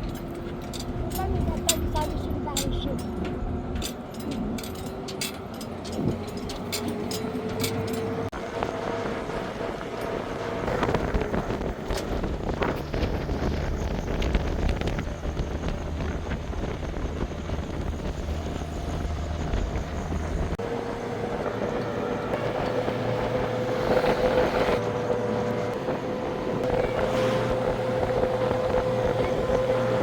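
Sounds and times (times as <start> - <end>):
engine deep rumble: 0.0 - 30.0.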